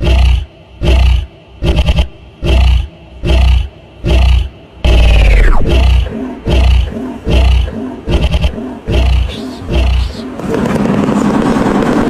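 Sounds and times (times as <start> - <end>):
large animal roaring: 0.0 - 10.4.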